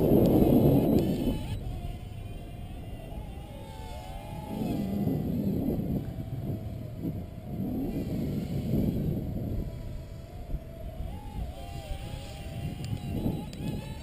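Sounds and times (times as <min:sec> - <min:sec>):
drone motors whining: 0:00.0 - 0:14.0
wind buffeting microphone: 0:00.0 - 0:14.0.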